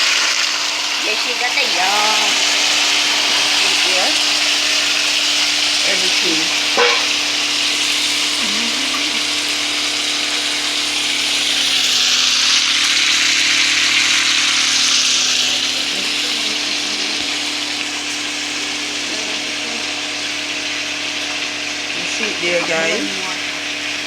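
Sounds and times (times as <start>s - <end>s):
pork sizzling in hot oil: 0.0s - 24.0s
steady low hum: 0.6s - 24.0s.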